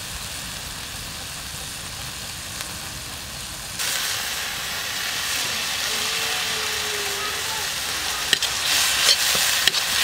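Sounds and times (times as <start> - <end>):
food sizzling in a wok: 0.0 - 10.0.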